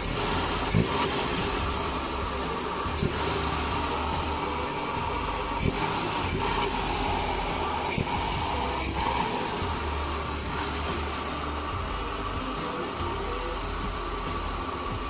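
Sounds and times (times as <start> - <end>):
car engine running: 0.0 - 15.0
intake hiss: 0.0 - 15.0.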